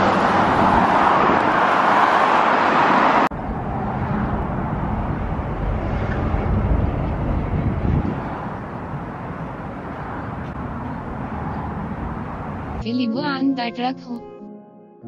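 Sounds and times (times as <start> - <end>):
cars passing: 0.0 - 13.6.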